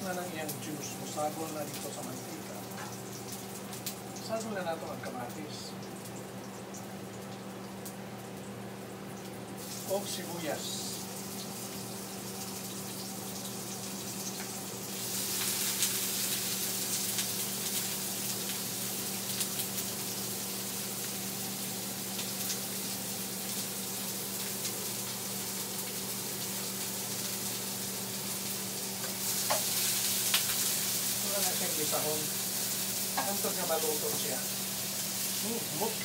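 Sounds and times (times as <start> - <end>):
onion sizzling in hot oil: 0.0 - 36.0.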